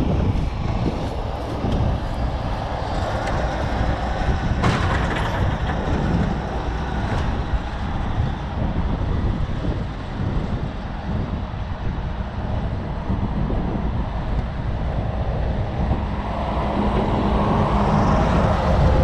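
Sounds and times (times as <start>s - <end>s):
truck engine running: 0.0s - 14.0s, 14.6s - 19.0s.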